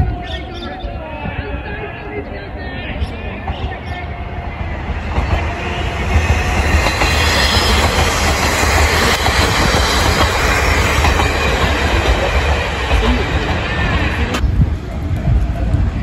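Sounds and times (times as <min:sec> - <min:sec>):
diesel railcars rumbling past: 0:00.0 - 0:16.0.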